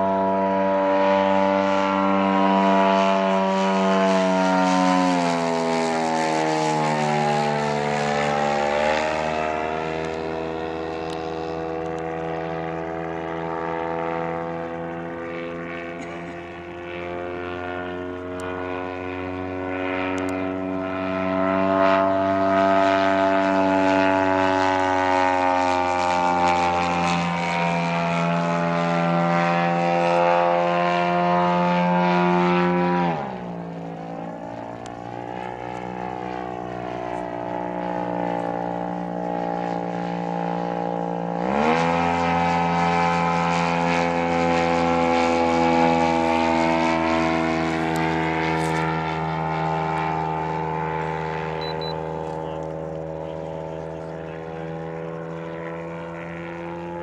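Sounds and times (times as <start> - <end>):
model airplane engine and propeller: 0.0 - 57.0.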